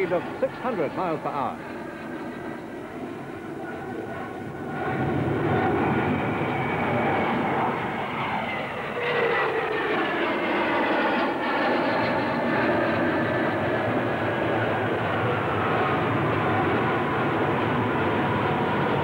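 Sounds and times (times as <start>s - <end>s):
falling jet engine whine: 0.0s - 19.0s
jet airliner flying past: 0.0s - 19.0s.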